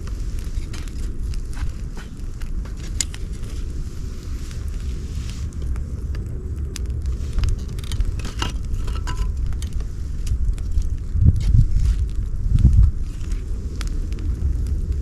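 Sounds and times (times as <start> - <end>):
campfire wood crackling: 0.0 - 15.0
low rumble of fire: 0.0 - 15.0.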